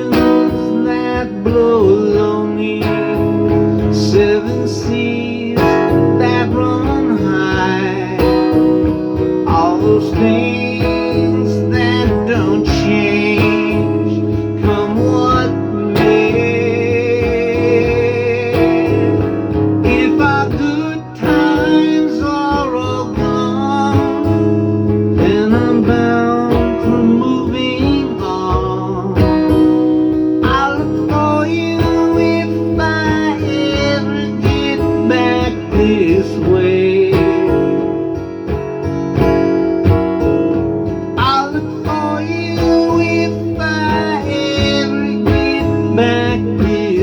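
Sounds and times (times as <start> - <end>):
acoustic guitar strumming: 0.0 - 47.0.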